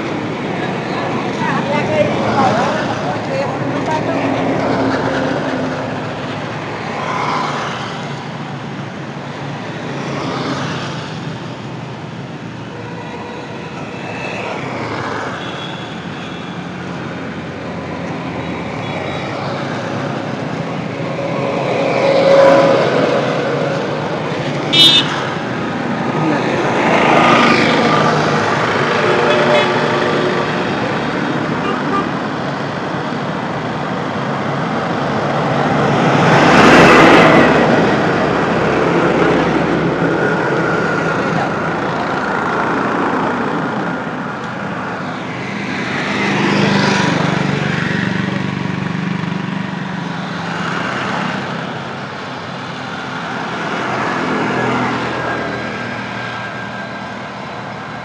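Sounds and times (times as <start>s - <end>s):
vehicles passing: 0.0s - 58.0s.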